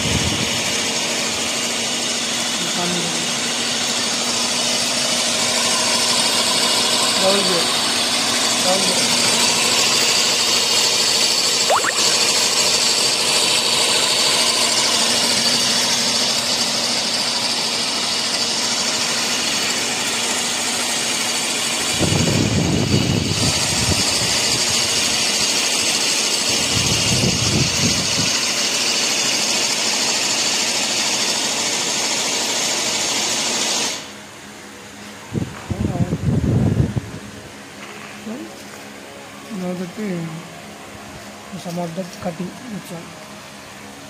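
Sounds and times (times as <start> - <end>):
mixer grinder whirring whine: 0.0 - 37.6.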